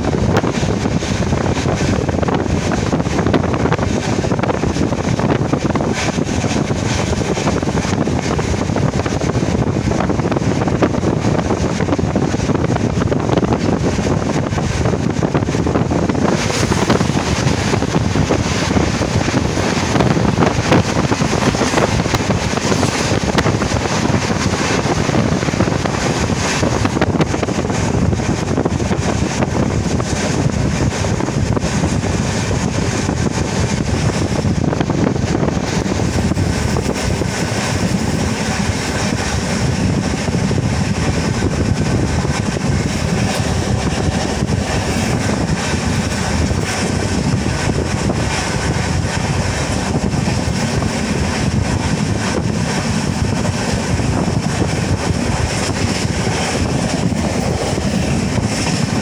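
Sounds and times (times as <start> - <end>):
train wheels on rails: 0.0 - 59.0
wind buffeting microphone: 0.0 - 59.0.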